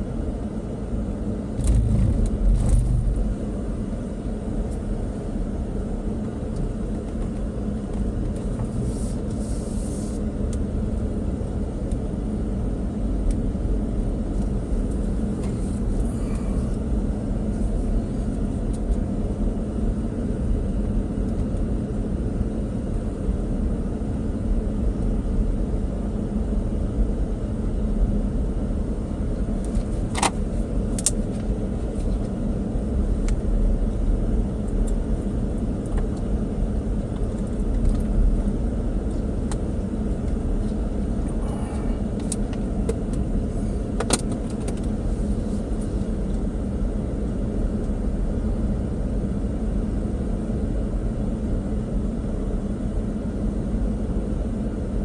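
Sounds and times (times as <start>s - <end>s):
road and engine rumble: 0.0s - 55.0s.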